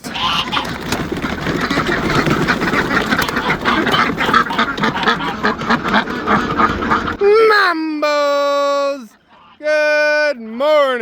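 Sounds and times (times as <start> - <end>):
ducks quacking: 0.0 - 10.8.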